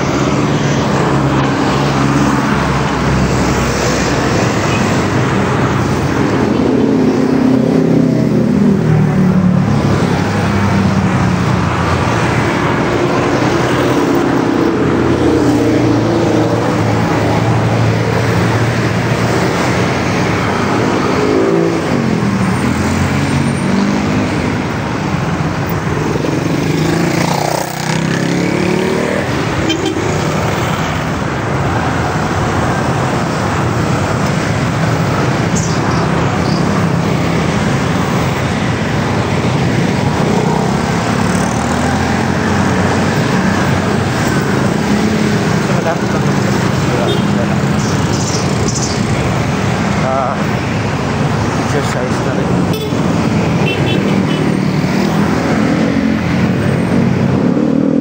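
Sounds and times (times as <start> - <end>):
car and motorcycle engines: 0.0 - 58.0
vehicles passing by: 0.0 - 58.0.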